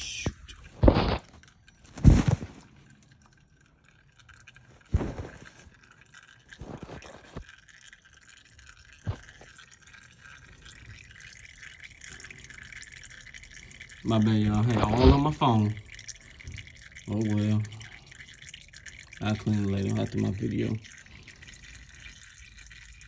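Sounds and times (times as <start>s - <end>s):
oil trickling into a pan: 0.0s - 23.0s.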